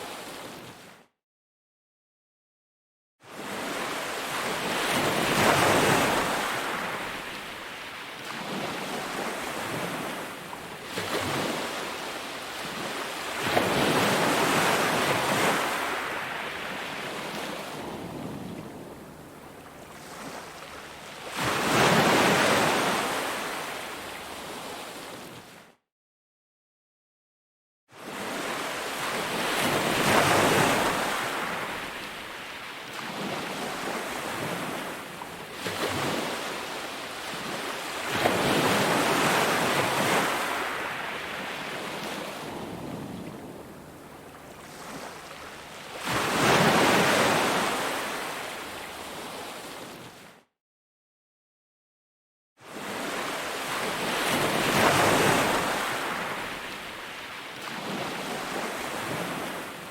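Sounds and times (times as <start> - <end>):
ocean waves breaking on beach: 3.3 - 25.6, 28.0 - 50.3, 52.6 - 59.9.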